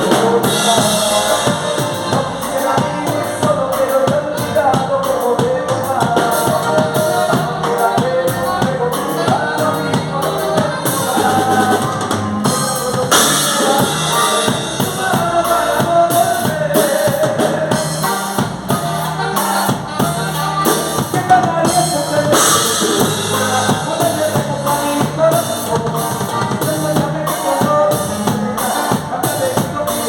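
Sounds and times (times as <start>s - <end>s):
drum kit beat: 0.0s - 30.0s
melodic lead line: 0.0s - 30.0s.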